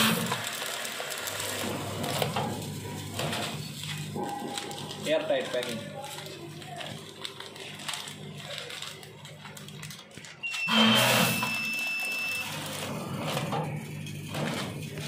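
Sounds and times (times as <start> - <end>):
packing machine humming: 0.0 - 15.0.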